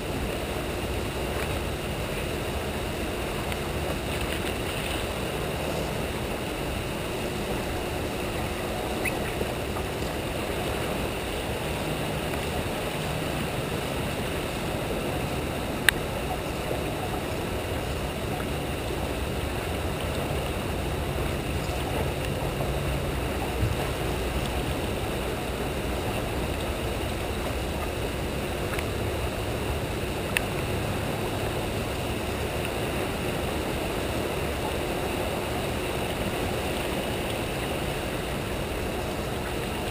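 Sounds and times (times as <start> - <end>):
turbulent water rushing: 0.0 - 39.9.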